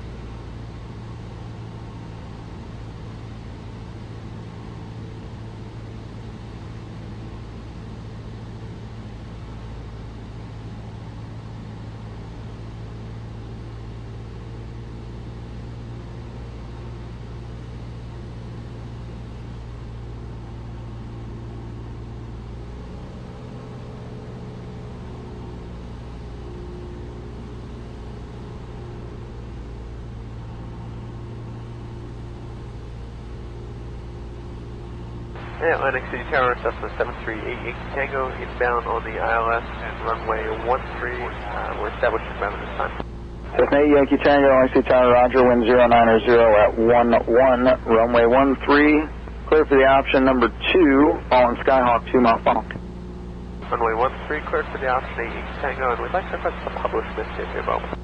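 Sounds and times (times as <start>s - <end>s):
aircraft engine droning in cockpit: 0.0s - 58.0s.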